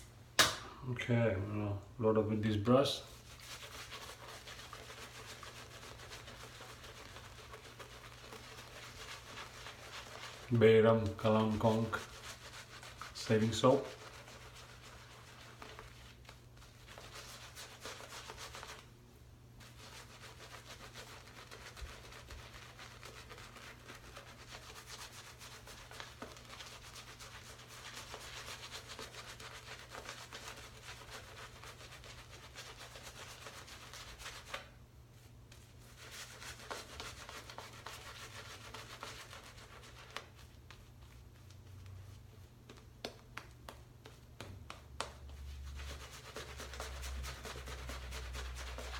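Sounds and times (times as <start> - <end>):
shaving brush rubbing on soap: 2.7 - 18.9, 19.6 - 34.8, 35.5 - 48.9.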